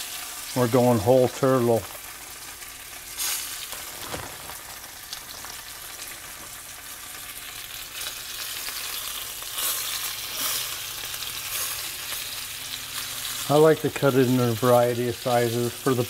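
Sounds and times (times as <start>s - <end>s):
frying in hot oil: 0.0s - 16.0s.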